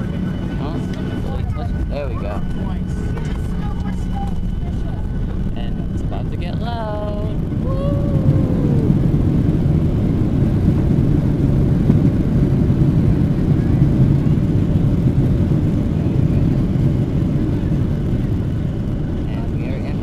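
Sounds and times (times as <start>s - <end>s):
jet engines in reverse thrust: 0.0s - 20.0s.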